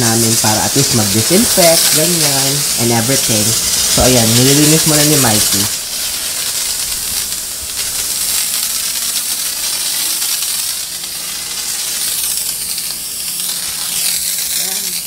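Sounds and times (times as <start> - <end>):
electric sprayer hissing: 0.0 - 15.0.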